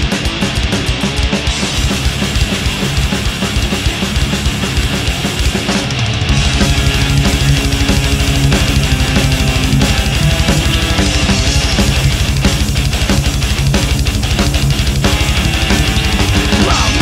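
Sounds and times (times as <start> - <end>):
distorted electric guitar riffing: 0.0 - 17.0
fast pounding drums: 0.0 - 17.0.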